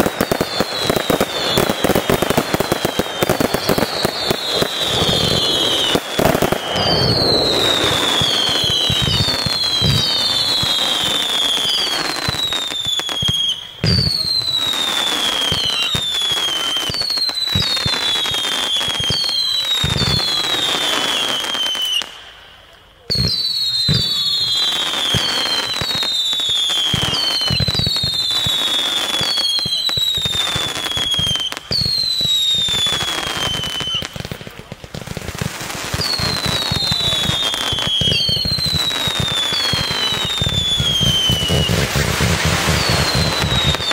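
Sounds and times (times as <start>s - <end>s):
fireworks crackling: 0.0s - 43.9s
fireworks whistles: 0.0s - 43.9s.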